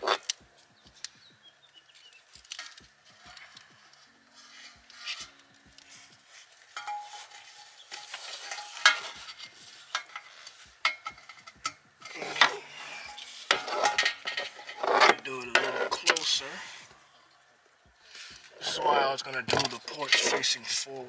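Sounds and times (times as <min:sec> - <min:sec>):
rustling: 0:00.0 - 0:20.8.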